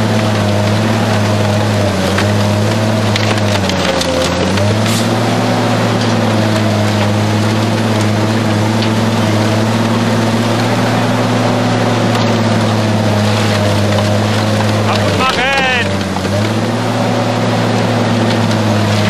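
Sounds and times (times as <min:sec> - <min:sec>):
diesel engine drone: 0:00.0 - 0:19.0
shredder grinding metal: 0:00.0 - 0:19.0.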